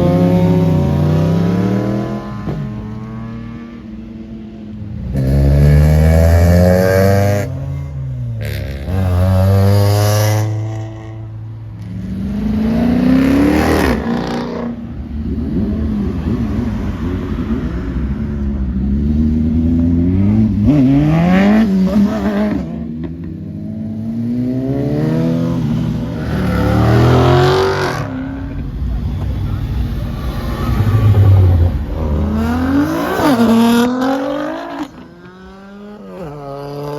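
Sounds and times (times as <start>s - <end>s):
car engines revving: 0.0s - 36.9s.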